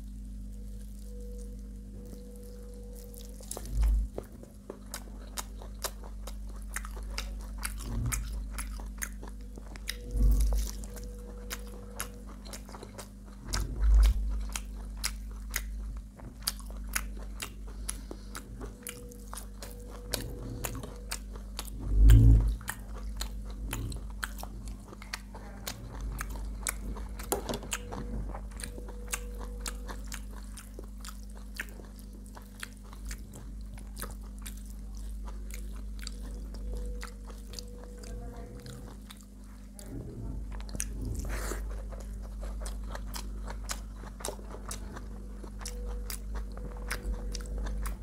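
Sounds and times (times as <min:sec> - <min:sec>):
close chewing and mouth clicks: 0:00.0 - 0:48.0
steady low hum: 0:00.0 - 0:48.0.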